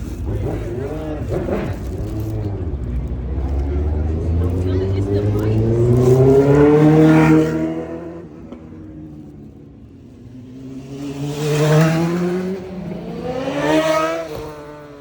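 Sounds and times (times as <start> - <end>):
car engines accelerating: 0.0 - 15.0.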